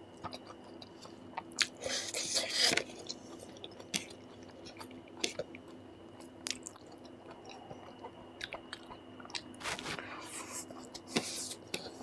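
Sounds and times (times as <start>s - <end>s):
faint steady hum: 0.0s - 12.0s
person chewing food: 0.1s - 12.0s.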